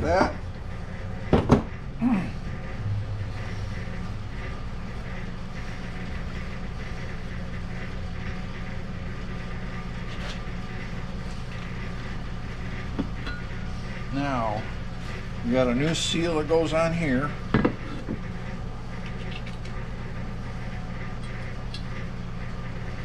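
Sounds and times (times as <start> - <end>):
shop machinery hum: 0.0 - 23.0.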